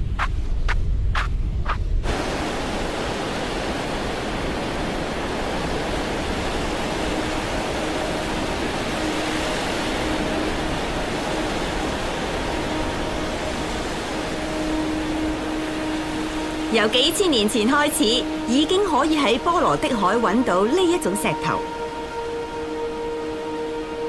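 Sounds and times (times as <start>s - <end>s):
waves washing over sand: 2.0s - 24.0s.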